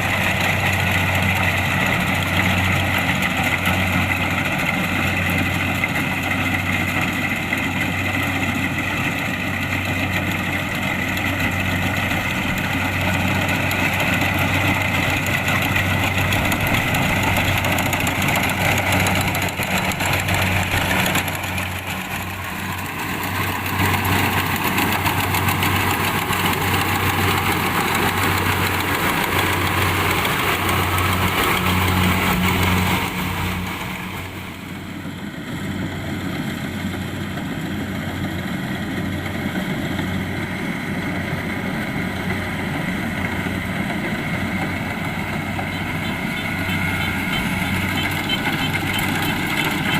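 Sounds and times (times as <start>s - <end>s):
combine harvester engine running: 0.0s - 49.9s.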